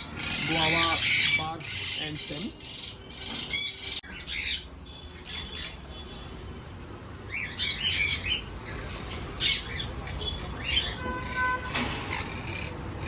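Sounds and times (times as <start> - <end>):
parrots squawking: 0.0 - 6.0, 7.2 - 11.5, 12.1 - 13.0.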